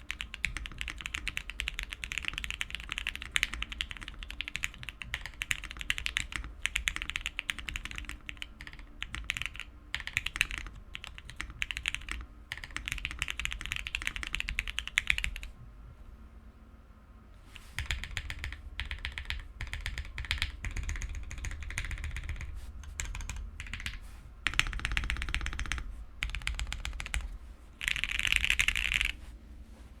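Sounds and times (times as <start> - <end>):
mechanical keyboard typing: 0.0 - 15.5, 17.8 - 29.2.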